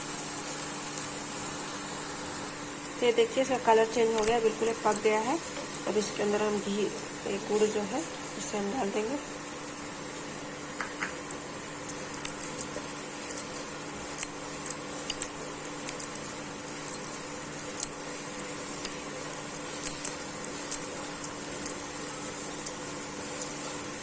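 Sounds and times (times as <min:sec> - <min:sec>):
steady hum: 0:02.8 - 0:24.0.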